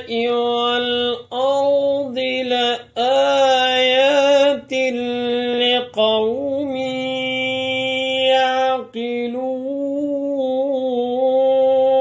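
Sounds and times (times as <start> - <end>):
person chanting melodically: 0.0 - 12.0.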